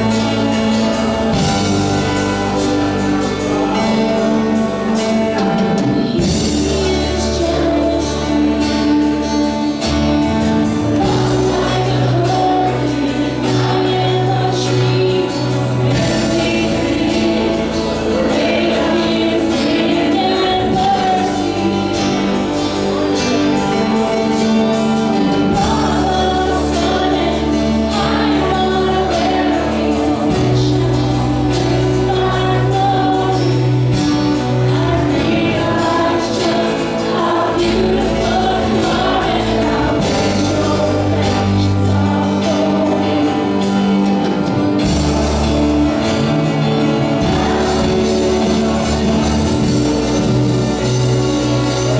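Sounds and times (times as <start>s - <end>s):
band playing: 0.0s - 51.9s
group of singers: 0.0s - 51.9s
sustained bass line: 0.0s - 51.9s.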